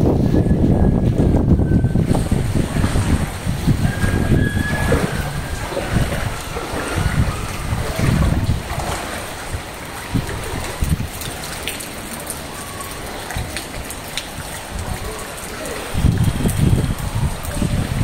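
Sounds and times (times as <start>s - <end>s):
rain and floodwater hissing: 0.0s - 18.0s
wind rumble on microphone: 0.0s - 18.0s.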